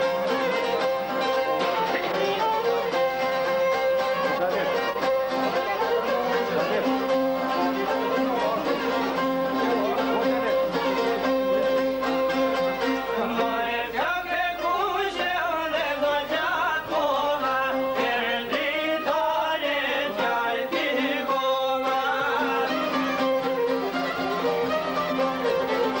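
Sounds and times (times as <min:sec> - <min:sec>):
folk music on string instruments: 0:00.0 - 0:26.0.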